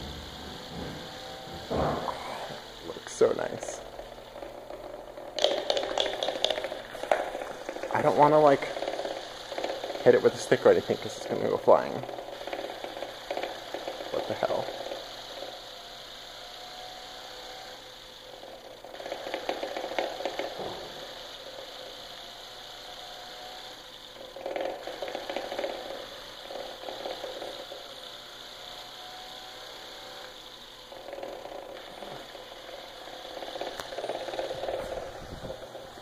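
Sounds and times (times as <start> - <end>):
robot spinning whir: 0.0 - 22.9, 23.5 - 36.0.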